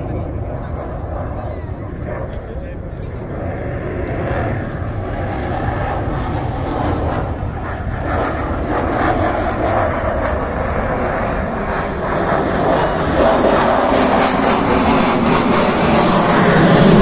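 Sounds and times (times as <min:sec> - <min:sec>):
aircraft engines flying over: 0:00.0 - 0:17.0.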